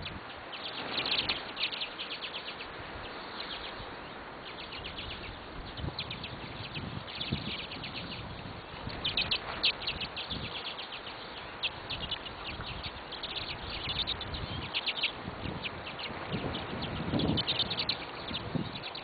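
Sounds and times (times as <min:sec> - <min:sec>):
outdoor background hiss: 0:00.0 - 0:19.0
small birds chirping: 0:00.0 - 0:19.0.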